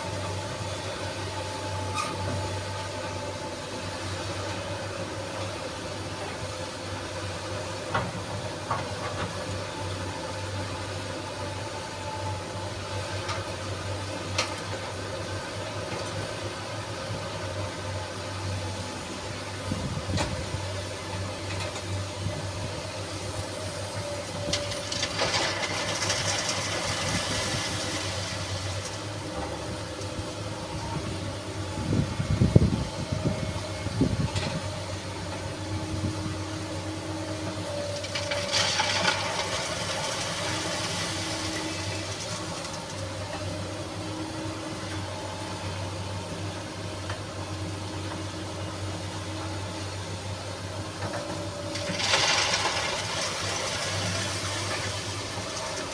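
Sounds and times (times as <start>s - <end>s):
excavator running: 0.0s - 55.9s.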